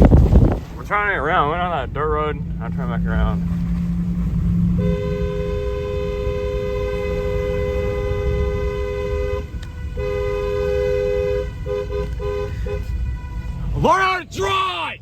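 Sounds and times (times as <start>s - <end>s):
truck rumbling on dirt road: 0.0s - 15.0s
two-tone truck horn: 2.4s - 14.9s.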